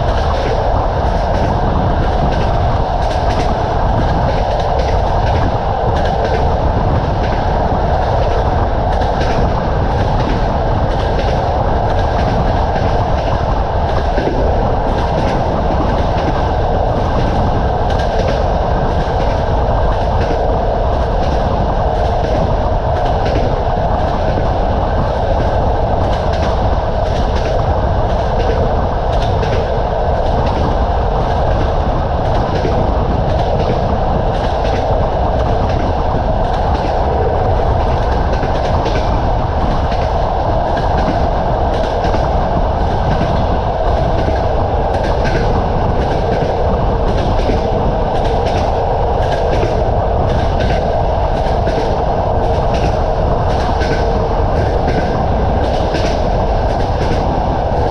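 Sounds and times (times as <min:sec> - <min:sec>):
train wheels rumbling on track: 0:00.0 - 0:57.9
wheels clickety-clack over rail joints: 0:00.0 - 0:57.9.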